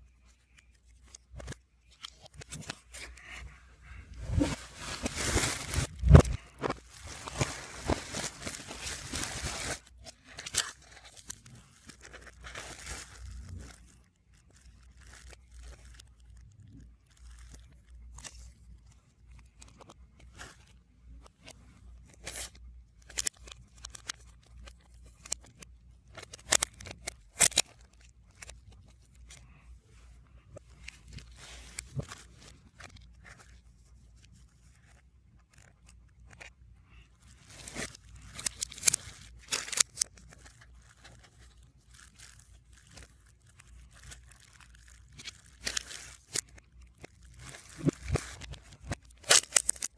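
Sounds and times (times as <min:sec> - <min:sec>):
plastic and card rustling: 0:00.0 - 0:29.7, 0:30.4 - 0:49.9
packaging crinkling and tearing: 0:01.0 - 0:20.7, 0:21.4 - 0:29.6, 0:37.2 - 0:49.9.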